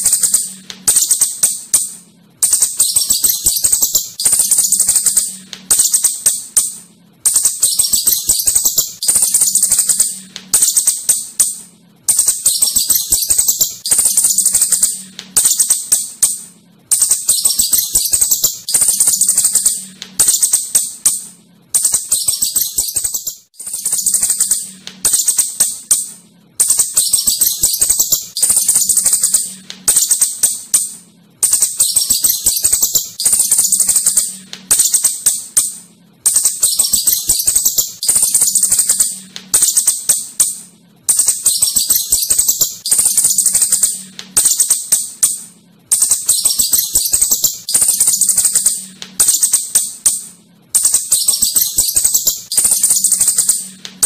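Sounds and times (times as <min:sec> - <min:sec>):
shrew chittering: 0:00.0 - 0:54.0.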